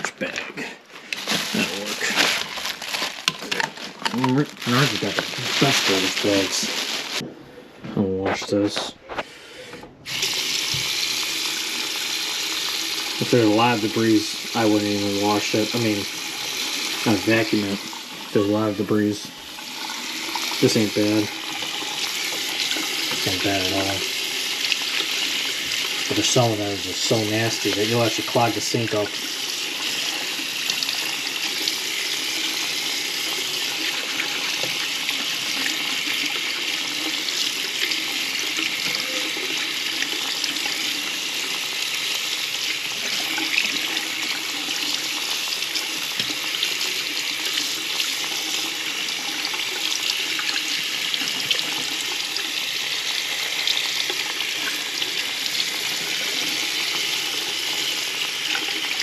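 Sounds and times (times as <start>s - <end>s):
tap water running into sink: 10.1s - 59.0s.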